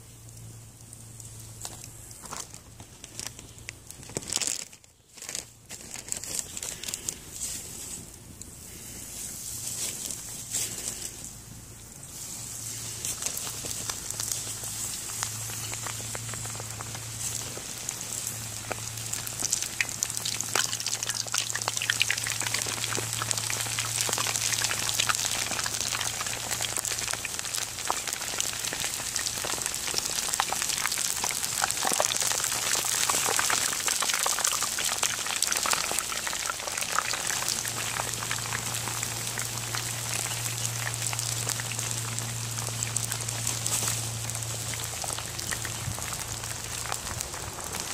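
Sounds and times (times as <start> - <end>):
oil sizzling and crackling: 0.0 - 47.9.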